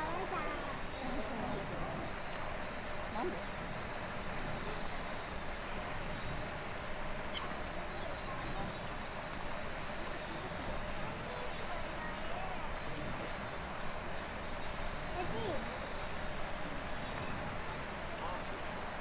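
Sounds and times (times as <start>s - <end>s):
cicadas droning: 0.0s - 19.0s
faint distant voices: 0.0s - 19.0s.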